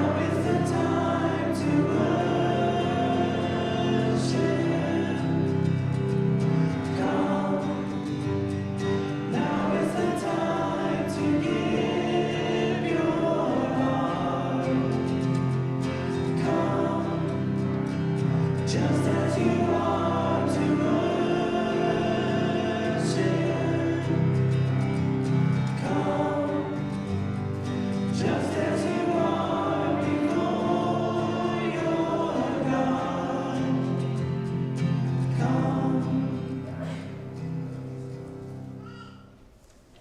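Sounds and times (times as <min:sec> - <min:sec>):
congregation singing a hymn: 0:00.0 - 0:39.4.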